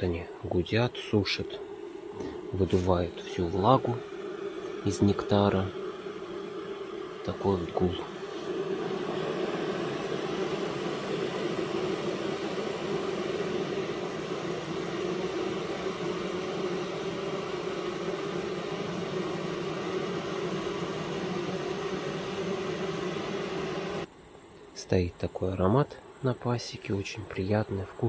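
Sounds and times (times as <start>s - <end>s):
honeybees humming: 0.0s - 28.0s.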